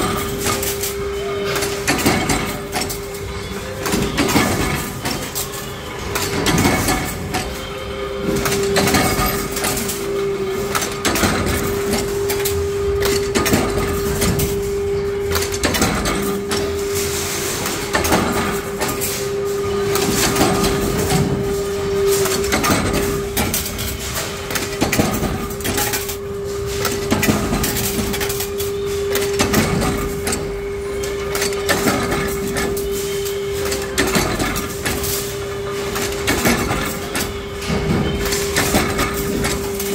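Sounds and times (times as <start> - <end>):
steady motor hum: 0.0 - 39.9
power press stamping knocks: 6.0 - 39.9.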